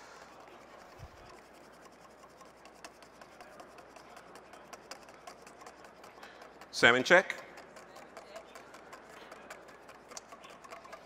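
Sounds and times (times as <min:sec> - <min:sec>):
utensil stirring in metal bowl: 0:00.0 - 0:11.0.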